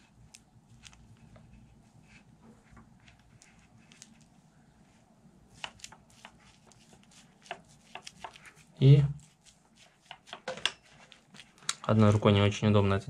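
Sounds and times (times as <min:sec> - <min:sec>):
soft handling rustles: 0:00.0 - 0:12.6.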